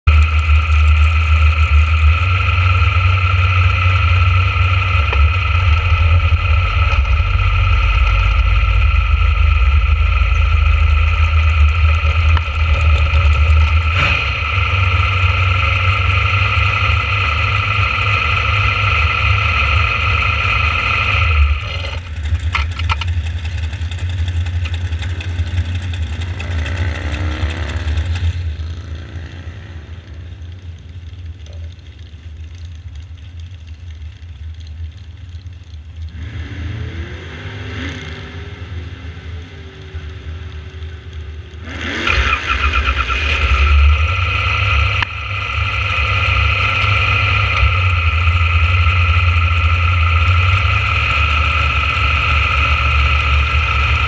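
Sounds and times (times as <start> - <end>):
dragster engine idling: 0.0 - 28.9, 30.0 - 36.1, 42.5 - 54.0.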